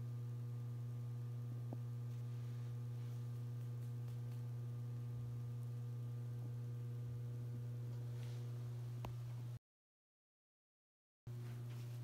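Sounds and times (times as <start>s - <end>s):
low electrical hum: 0.0s - 9.6s, 11.3s - 12.0s.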